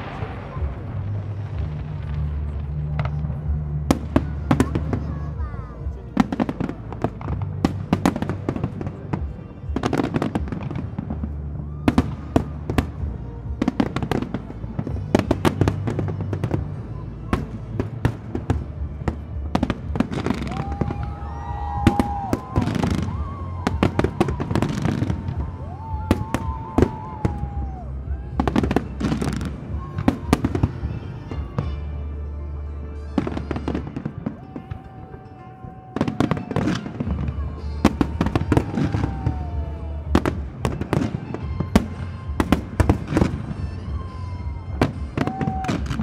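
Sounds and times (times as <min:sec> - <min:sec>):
fireworks bursting with bangs: 0:00.0 - 0:32.0, 0:33.0 - 0:46.0.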